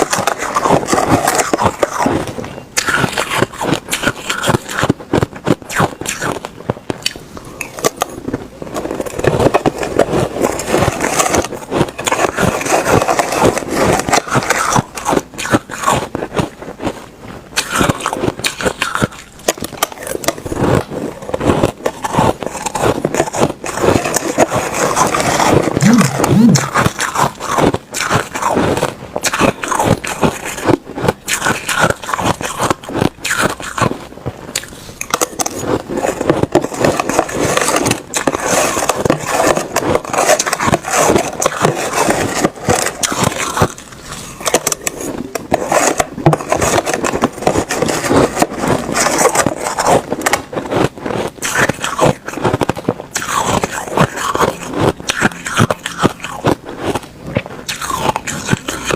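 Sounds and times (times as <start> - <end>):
ice being chewed: 0.0 - 58.9.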